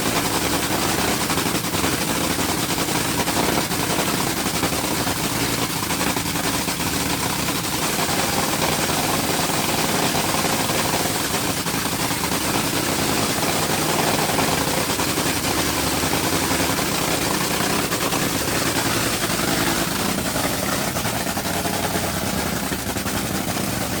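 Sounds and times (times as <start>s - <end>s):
dragster engine choppy firing: 0.0s - 24.0s.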